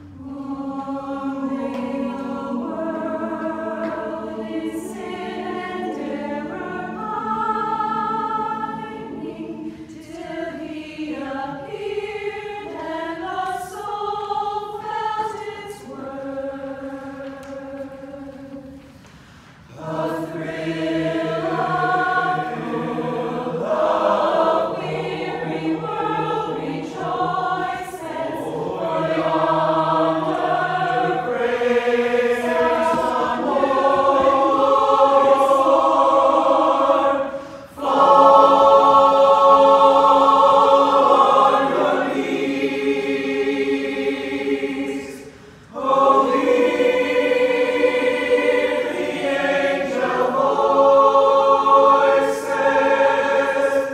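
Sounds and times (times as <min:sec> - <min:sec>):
mixed choir singing: 0:00.0 - 0:19.0, 0:19.6 - 0:53.9.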